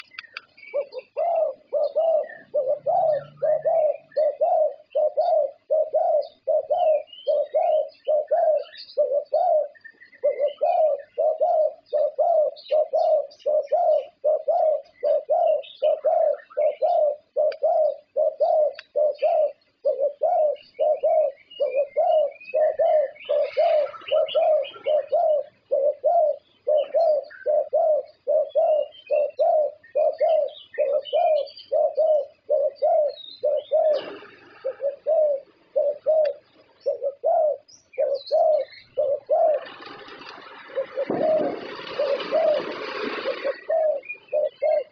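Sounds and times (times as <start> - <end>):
dove cooing: 0.0 - 44.9
small birds chirping: 0.0 - 44.9.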